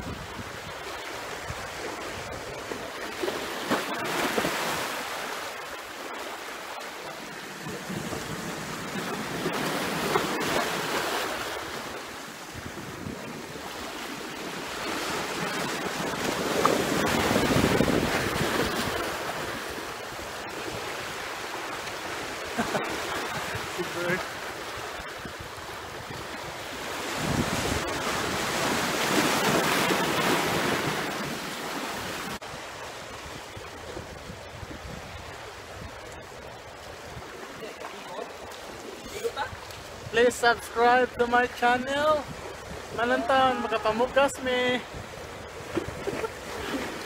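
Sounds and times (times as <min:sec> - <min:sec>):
seawater rushing and splashing: 0:00.0 - 0:47.0.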